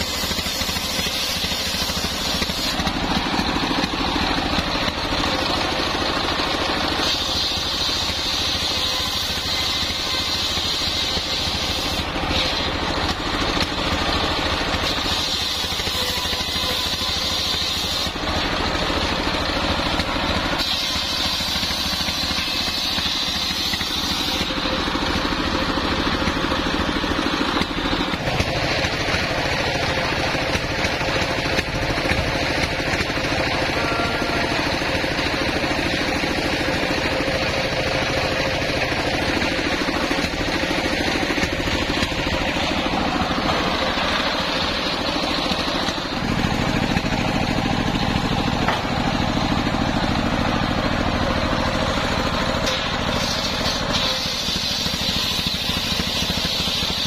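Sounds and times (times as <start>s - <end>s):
circular saw whine cutting timber: 0.0s - 57.0s
stationary engine running: 0.0s - 57.0s.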